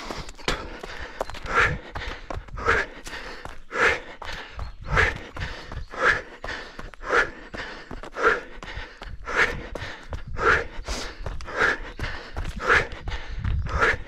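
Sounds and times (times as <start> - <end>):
runner breathing hard: 0.0 - 14.0.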